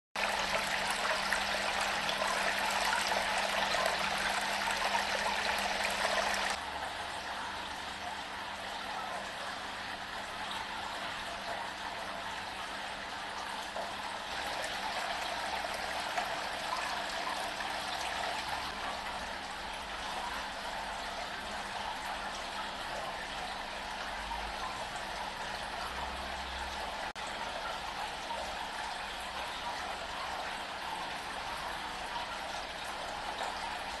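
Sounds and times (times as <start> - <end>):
faint steady hum: 0.2 - 34.0
fountain water trickling and splashing: 0.2 - 34.0.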